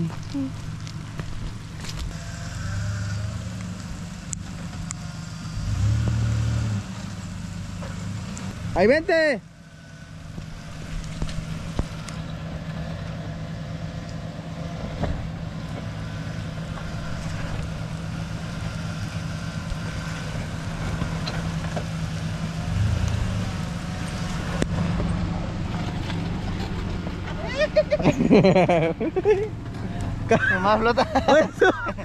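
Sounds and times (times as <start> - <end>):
vehicle engine low hum: 0.0 - 32.0.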